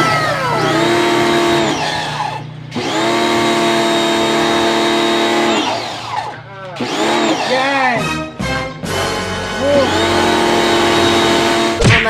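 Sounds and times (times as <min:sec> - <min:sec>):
pressure washer motor whining: 0:00.0 - 0:11.8.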